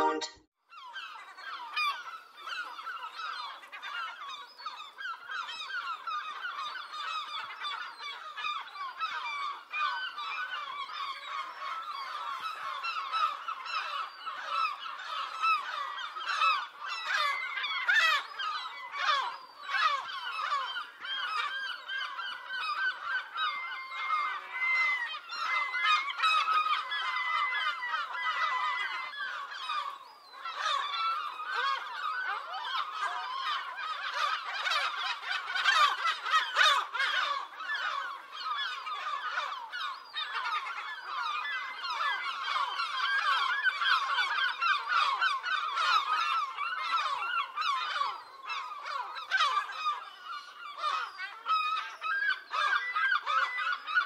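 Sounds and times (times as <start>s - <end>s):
seagulls calling and shrieking: 0.0s - 54.0s.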